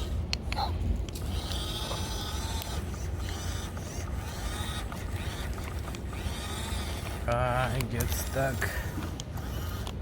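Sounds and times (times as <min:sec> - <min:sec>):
toy bulldozer motors whining: 0:00.0 - 0:10.0.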